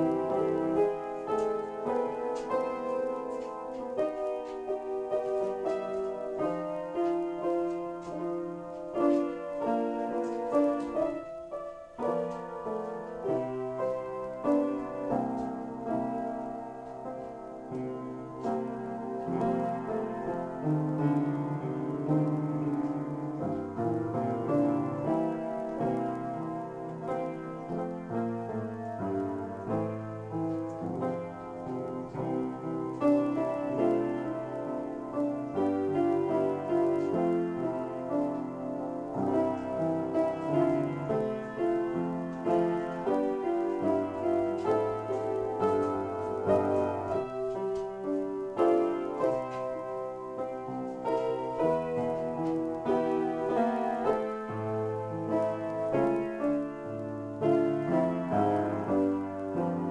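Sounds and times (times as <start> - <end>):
upright piano chords: 0.0 - 59.9.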